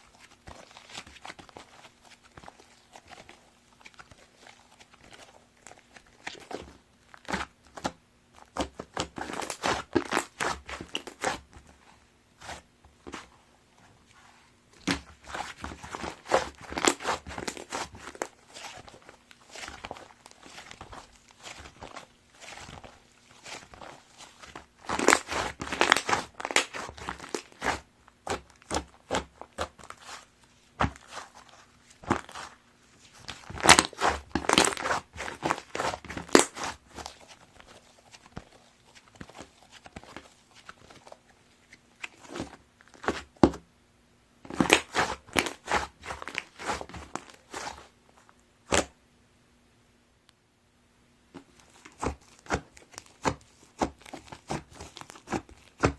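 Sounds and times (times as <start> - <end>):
slime squishing with sticky crackling: 0.0 - 43.6, 44.4 - 48.9, 51.4 - 55.9.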